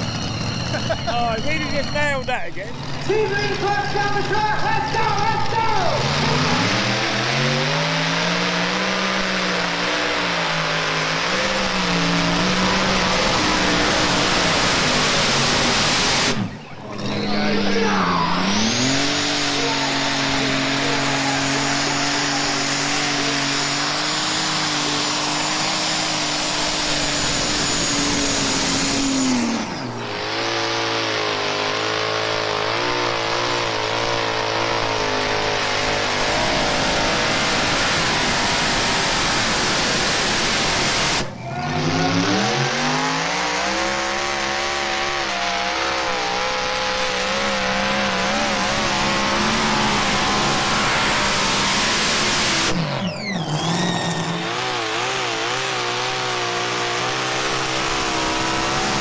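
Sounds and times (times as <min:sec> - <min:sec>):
tractor engine running loud: 0:00.0 - 0:59.0.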